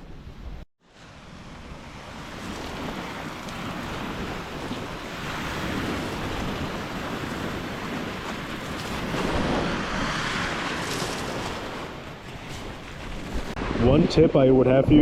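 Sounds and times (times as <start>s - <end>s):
waves washing onto beach: 0.8s - 15.0s.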